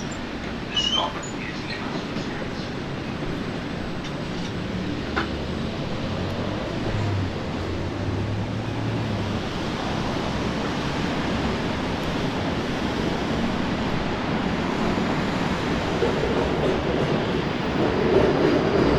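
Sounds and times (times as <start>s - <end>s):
tram wheels and motor: 0.0s - 18.9s.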